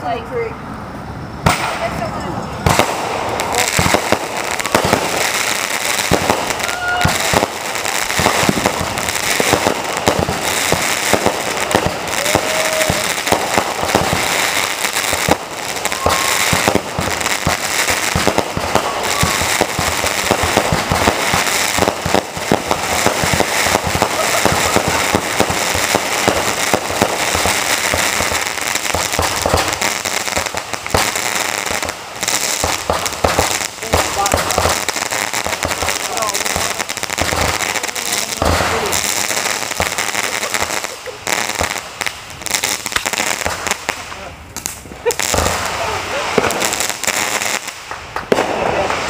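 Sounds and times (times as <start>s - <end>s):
firework cake crackling and popping: 1.4s - 49.0s.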